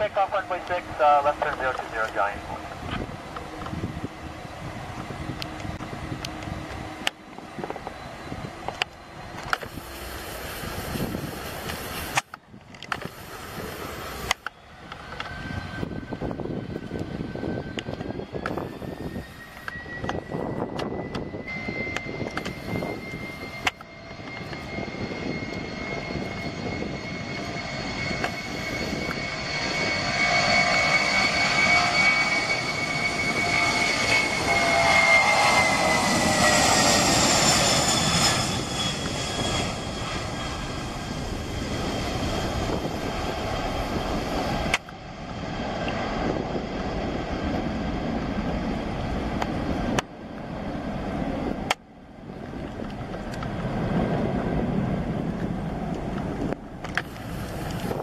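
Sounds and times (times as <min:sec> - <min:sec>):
jet engines at takeoff: 0:00.0 - 0:58.0.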